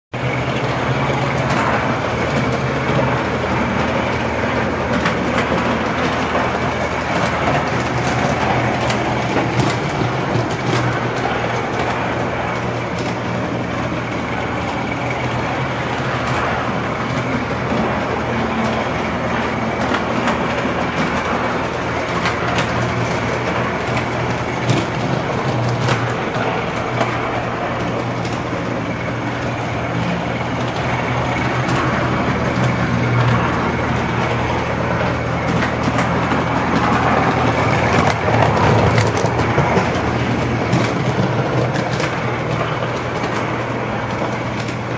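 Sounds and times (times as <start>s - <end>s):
model train running noise: 0.1s - 44.9s
wheels clicking over rail joints: 0.2s - 44.9s.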